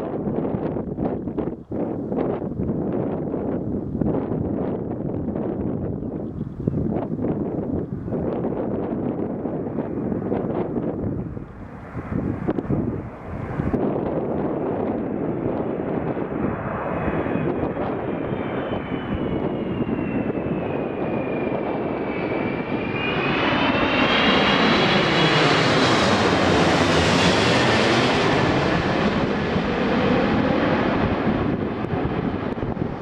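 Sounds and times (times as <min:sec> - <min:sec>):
jet airliner engines roaring: 0:00.0 - 0:33.0.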